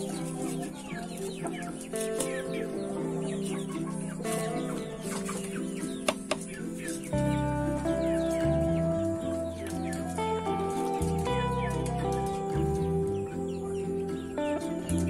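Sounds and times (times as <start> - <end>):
background music sustained notes: 0.0 - 15.0
chickens clucking: 0.0 - 15.0.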